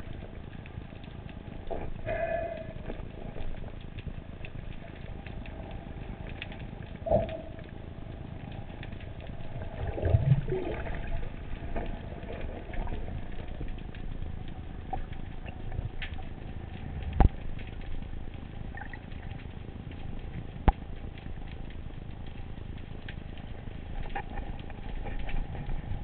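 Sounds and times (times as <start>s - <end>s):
low rumbling with wavering tones: 0.0s - 26.0s
underwater crackle of clicks: 0.0s - 26.0s.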